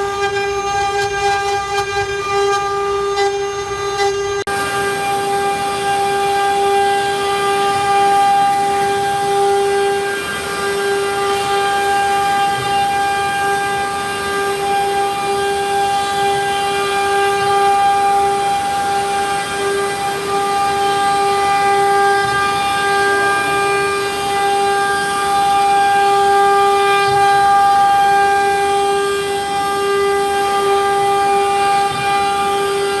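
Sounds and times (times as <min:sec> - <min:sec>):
router spindle whining: 0:00.0 - 0:33.0.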